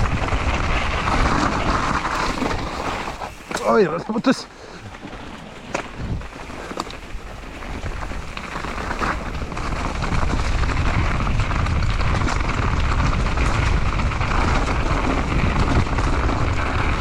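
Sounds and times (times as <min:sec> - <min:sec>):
wind on microphone: 0:00.0 - 0:04.0, 0:04.8 - 0:17.0
bike tyres rolling on trail: 0:00.0 - 0:17.0.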